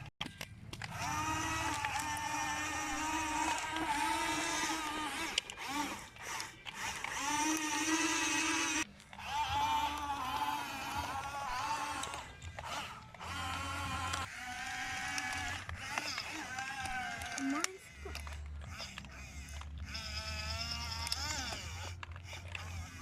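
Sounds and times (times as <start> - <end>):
toy excavator motors whining: 0.0 - 23.0.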